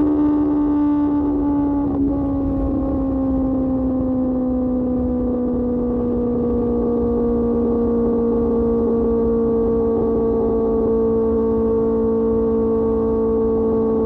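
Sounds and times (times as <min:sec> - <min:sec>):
motorcycle engine at high revs: 0:00.0 - 0:14.0
wind noise: 0:00.0 - 0:14.0.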